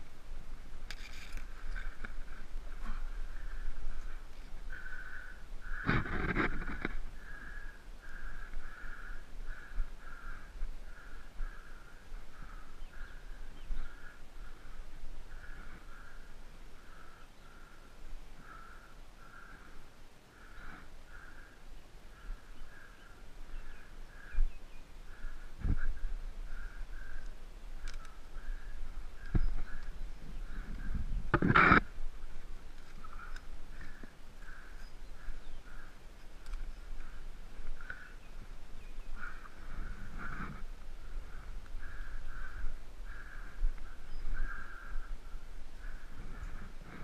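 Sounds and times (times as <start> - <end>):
bird crow-like calls: 0.9 - 32.1, 32.8 - 47.0.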